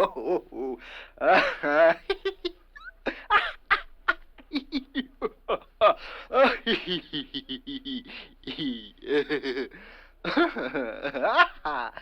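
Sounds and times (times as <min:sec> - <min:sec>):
person laughing: 0:00.0 - 0:12.0.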